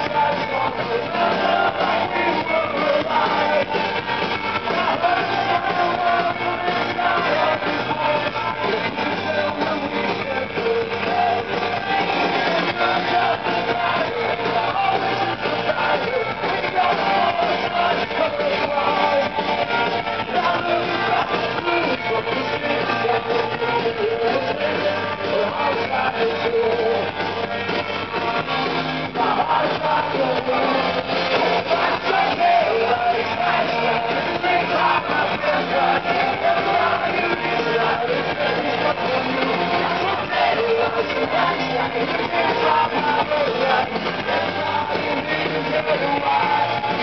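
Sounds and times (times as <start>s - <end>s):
drums: 0.0s - 47.0s
electric guitars: 0.0s - 47.0s
man singing: 0.0s - 47.0s.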